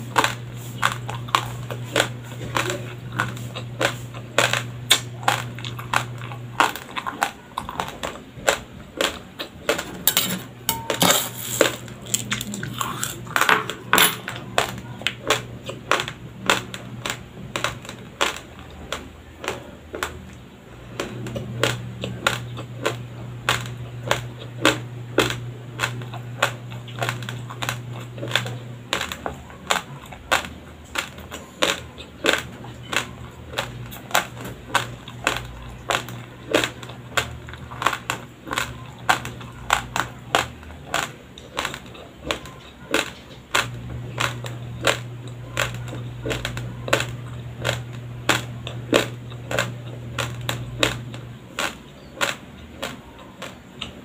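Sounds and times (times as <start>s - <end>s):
person chewing raw rice: 0.0s - 54.0s.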